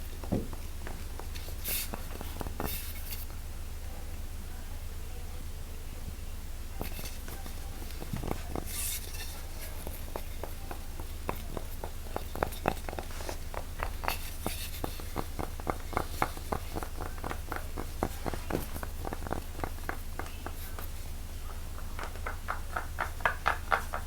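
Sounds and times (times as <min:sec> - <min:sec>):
quick irregular taps and clicks: 0:00.0 - 0:03.4, 0:06.8 - 0:24.0
steady low hum: 0:00.0 - 0:24.0.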